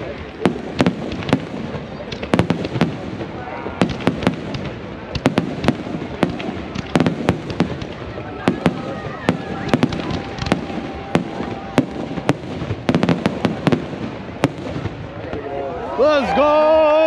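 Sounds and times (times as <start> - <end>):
firework shells bursting: 0.3 - 15.3.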